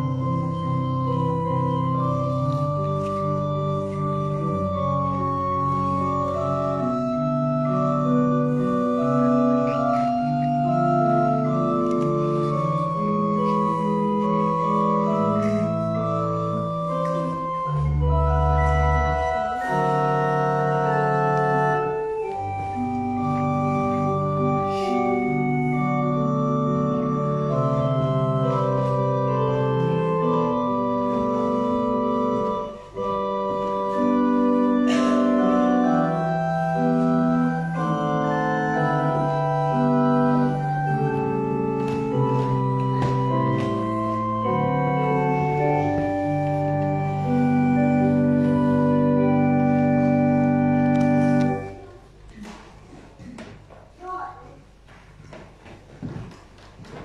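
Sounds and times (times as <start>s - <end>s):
church organ playing held chords: 0.0s - 52.2s.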